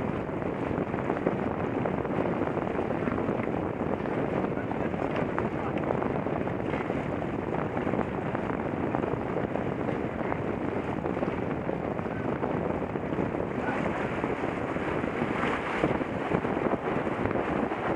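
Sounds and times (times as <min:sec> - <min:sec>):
water rushing along boat hull: 0:00.0 - 0:17.9
wind buffeting microphone: 0:00.0 - 0:17.9.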